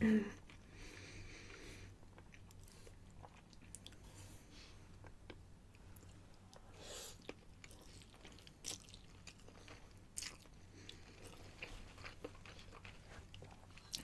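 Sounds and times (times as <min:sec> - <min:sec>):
person chewing food: 0:00.5 - 0:14.0.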